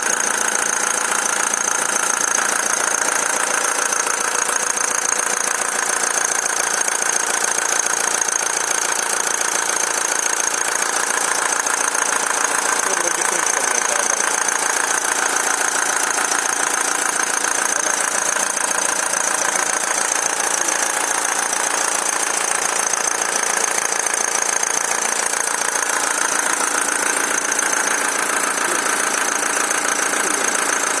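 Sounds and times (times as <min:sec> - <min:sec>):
diesel engine running: 0:00.0 - 0:31.0
rapid ticking engine knock: 0:00.0 - 0:31.0.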